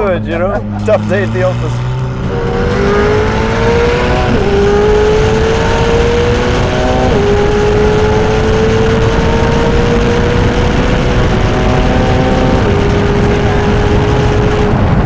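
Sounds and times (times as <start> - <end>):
sports car accelerating: 0.0 - 15.0.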